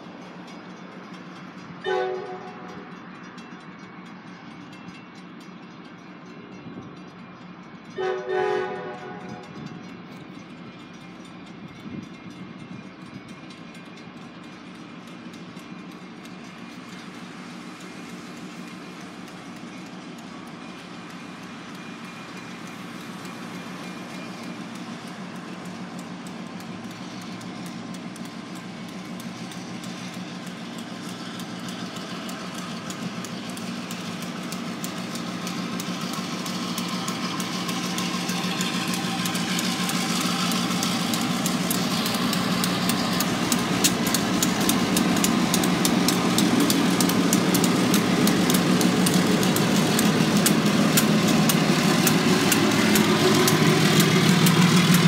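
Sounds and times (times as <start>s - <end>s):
diesel locomotive engine drone: 0.0s - 55.0s
train wheels clicking on rails: 0.0s - 55.0s.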